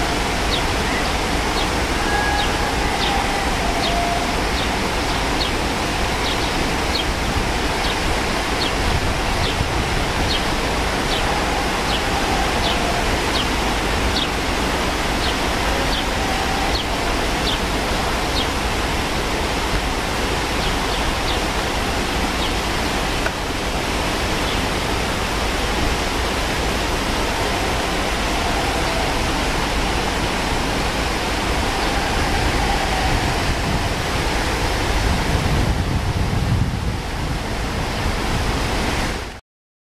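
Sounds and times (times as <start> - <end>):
white water rushing over rocks: 0.0 - 39.4.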